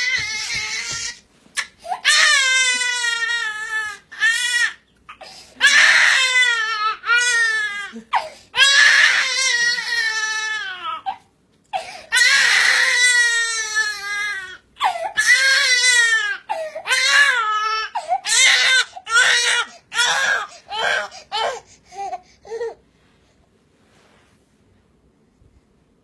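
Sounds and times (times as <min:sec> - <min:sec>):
baby crying: 0:00.0 - 0:22.8.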